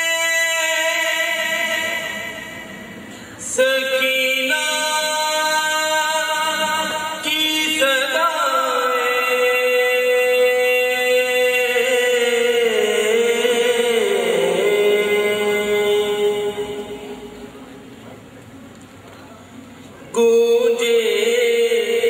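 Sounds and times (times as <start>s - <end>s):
man chanting a lament: 0.0s - 2.7s, 3.3s - 17.6s, 20.0s - 22.0s.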